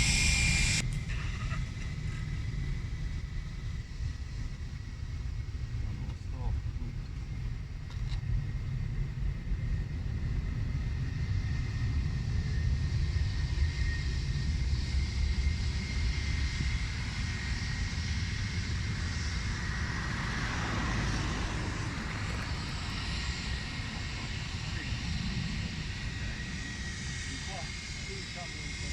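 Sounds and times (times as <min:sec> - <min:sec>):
jet airliner engines passing: 0:00.0 - 0:28.9.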